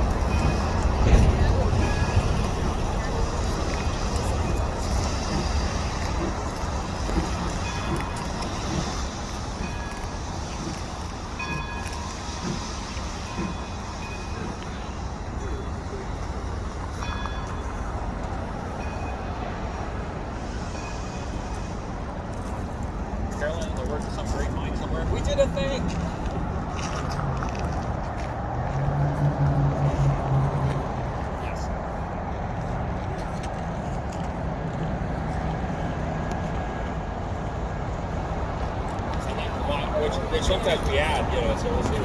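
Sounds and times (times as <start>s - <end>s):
train rumbling along track: 0.0s - 42.0s.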